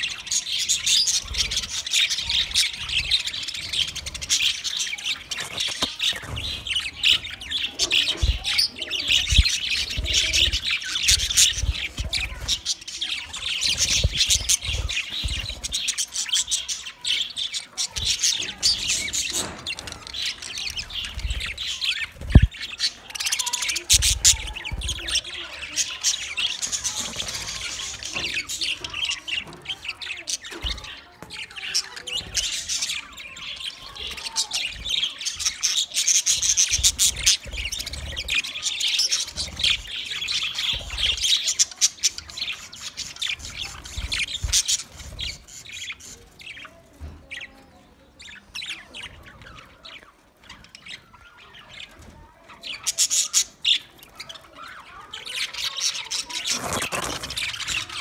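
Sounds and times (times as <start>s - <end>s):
budgerigars chattering: 0.0s - 47.6s, 52.6s - 58.0s.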